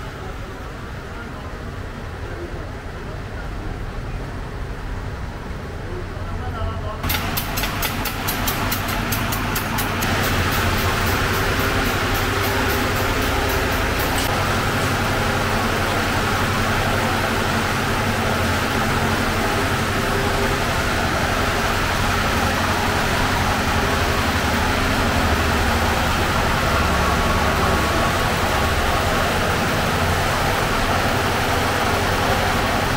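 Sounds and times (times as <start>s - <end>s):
ventilation fans and oven drone: 0.0s - 32.9s.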